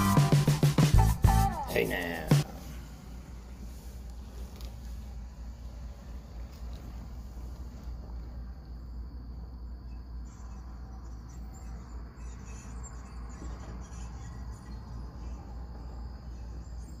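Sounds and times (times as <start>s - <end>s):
crickets chirping: 1.7s - 17.0s.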